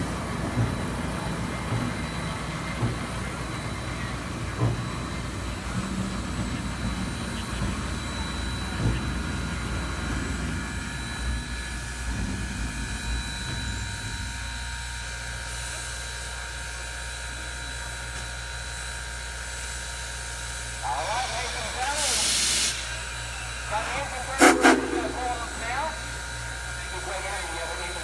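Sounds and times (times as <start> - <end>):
locomotive cab rumble: 0.0 - 16.0, 20.6 - 28.0.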